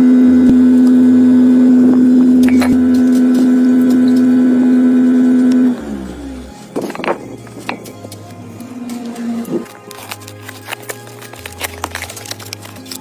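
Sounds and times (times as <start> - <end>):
power tool motor humming: 0.0 - 13.0.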